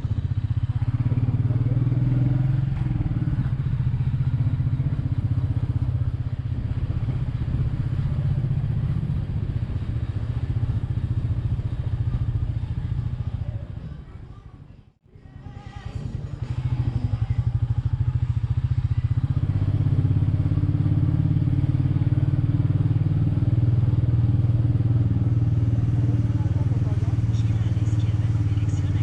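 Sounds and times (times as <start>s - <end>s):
motorcycle engine cruising: 0.0s - 29.0s.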